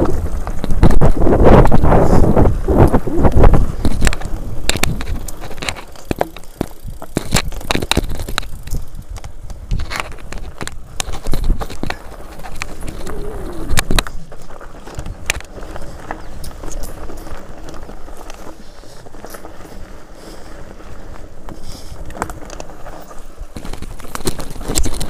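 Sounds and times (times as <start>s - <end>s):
bike rattling and clicking: 0.0s - 25.0s
bike tyres on loose gravel: 0.0s - 25.0s
wind rumble on microphone: 0.0s - 25.0s.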